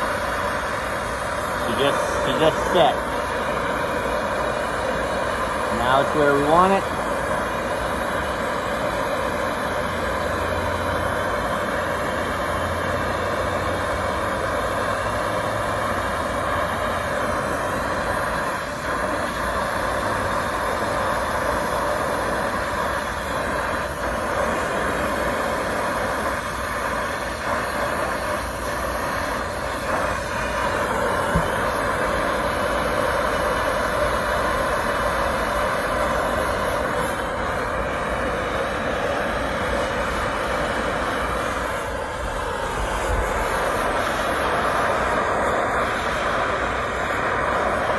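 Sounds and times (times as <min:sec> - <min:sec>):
brazing torch flame hissing: 0:00.0 - 0:47.9.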